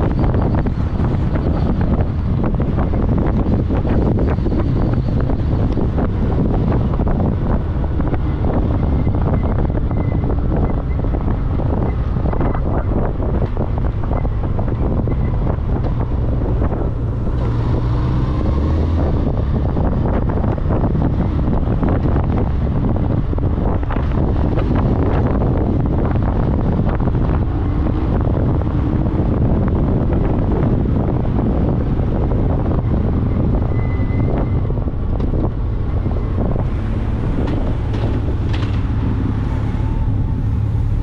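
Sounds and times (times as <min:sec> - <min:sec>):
road and vehicle rumble: 0:00.0 - 0:41.0
wind buffeting microphone: 0:00.0 - 0:41.0.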